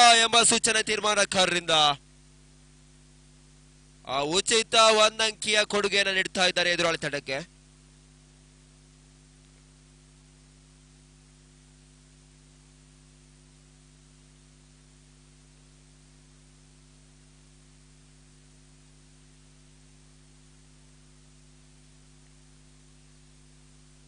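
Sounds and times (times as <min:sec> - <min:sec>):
faint hiss: 0:00.0 - 0:24.0
low electrical hum: 0:00.0 - 0:24.0.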